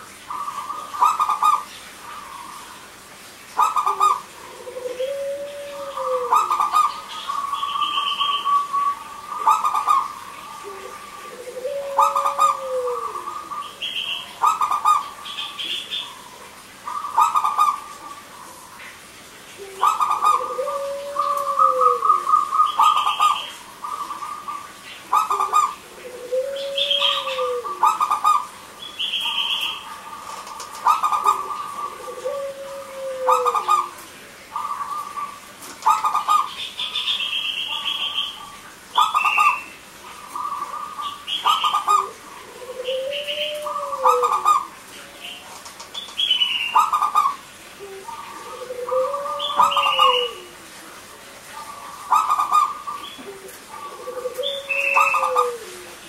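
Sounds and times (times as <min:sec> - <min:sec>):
doves cooing: 0:00.0 - 0:18.8, 0:19.5 - 0:56.0
birds chirping: 0:00.0 - 0:50.6, 0:51.2 - 0:56.0.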